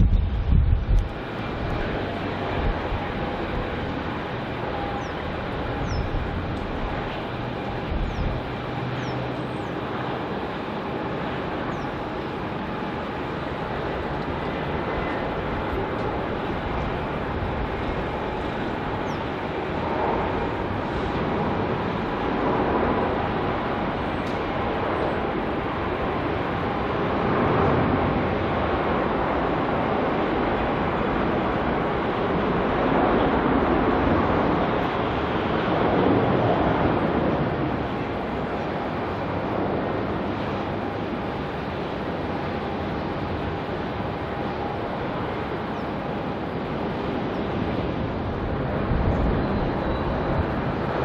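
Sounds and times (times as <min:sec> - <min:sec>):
jet airliner taking off: 0:00.0 - 0:51.0
wind on microphone: 0:00.0 - 0:51.0.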